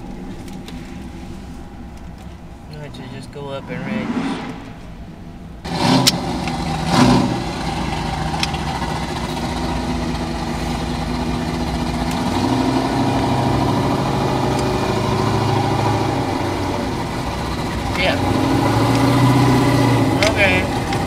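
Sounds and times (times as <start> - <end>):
approaching vehicle engine: 0.0 - 21.0
vehicle engines idling: 0.0 - 21.0.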